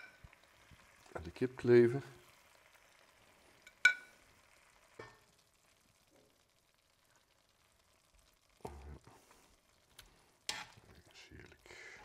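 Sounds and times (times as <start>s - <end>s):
sauce sizzling faintly in pan: 0.0s - 12.0s.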